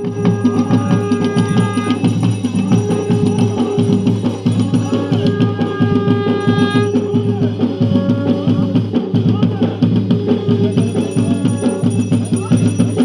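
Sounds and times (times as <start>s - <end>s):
fast even drumming: 0.0s - 13.0s.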